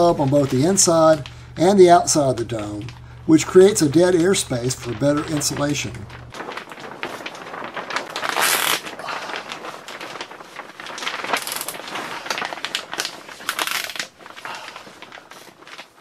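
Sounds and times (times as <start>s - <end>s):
plastic sheeting crinkling: 0.0s - 16.0s.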